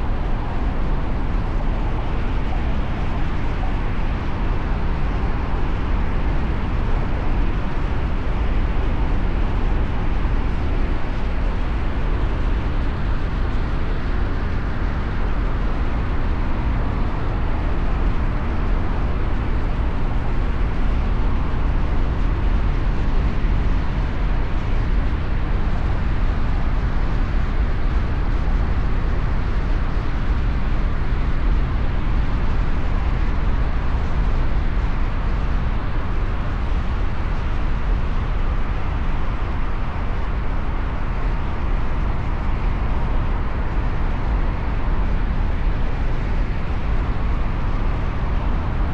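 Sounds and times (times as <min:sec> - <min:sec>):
city traffic rumble: 0:00.0 - 0:48.9.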